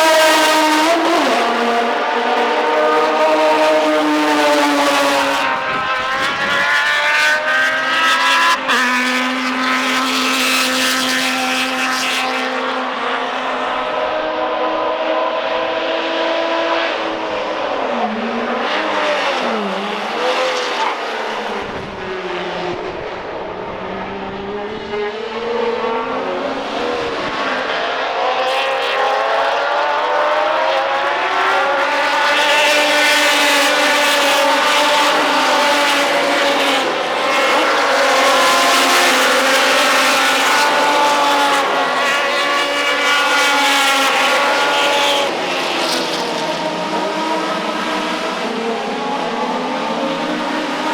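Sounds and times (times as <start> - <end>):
race car engines at speed: 0.0 - 50.9.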